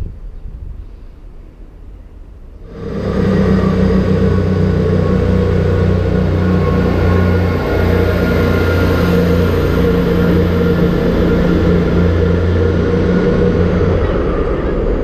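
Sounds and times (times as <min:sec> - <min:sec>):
diesel train engine humming: 0:02.0 - 0:15.0.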